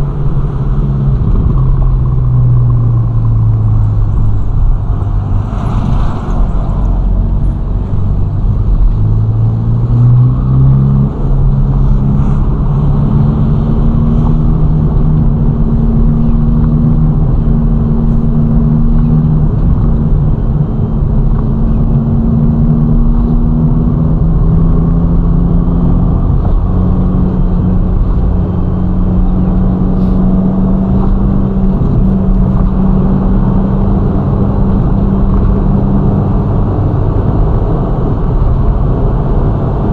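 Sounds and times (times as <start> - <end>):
car engine at highway speed: 0.0 - 39.9
road noise: 0.0 - 39.9.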